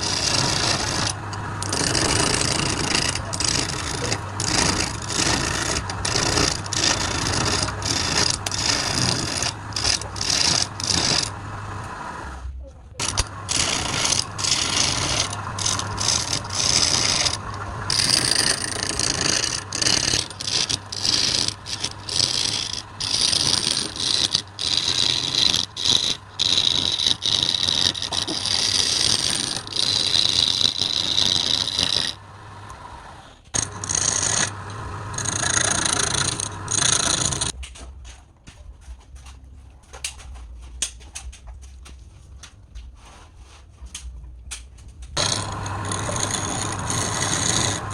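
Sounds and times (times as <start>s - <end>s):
woodturning tool scraping wood: 0.0s - 37.6s, 45.2s - 47.9s.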